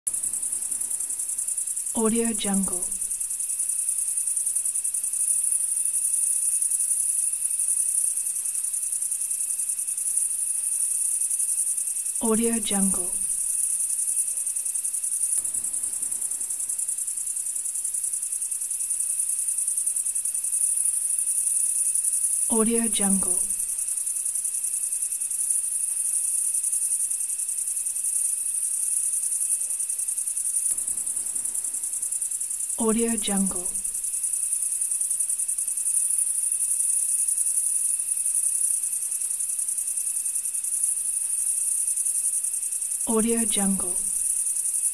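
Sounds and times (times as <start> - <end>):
crickets chirping: 0.1 - 44.9
faint steady tone: 0.1 - 44.9.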